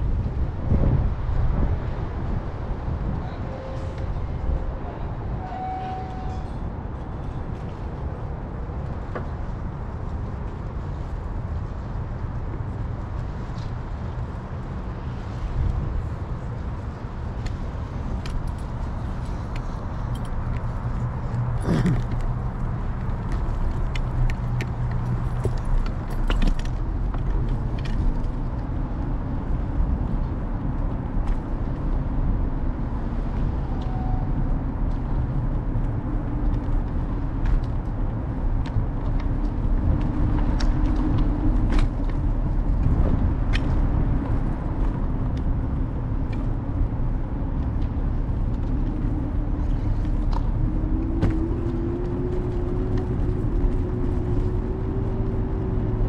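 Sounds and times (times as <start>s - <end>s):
scooter ride rumble: 0.0s - 56.0s
street traffic: 0.0s - 56.0s.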